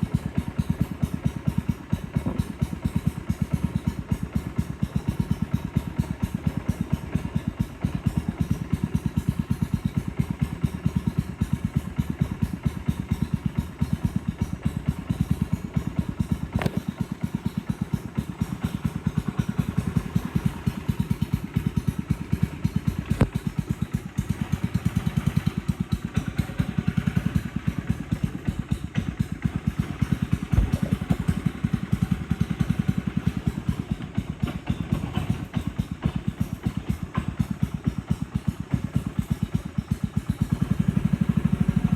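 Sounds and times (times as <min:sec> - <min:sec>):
boat motor pulsing: 0:00.0 - 0:41.9.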